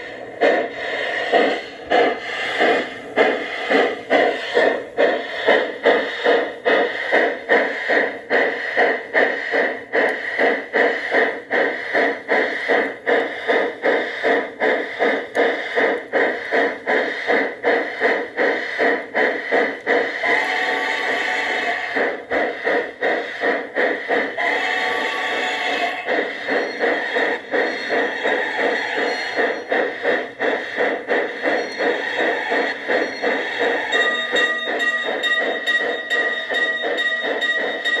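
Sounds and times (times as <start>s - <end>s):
model locomotive steam chuffs: 0.0s - 38.0s.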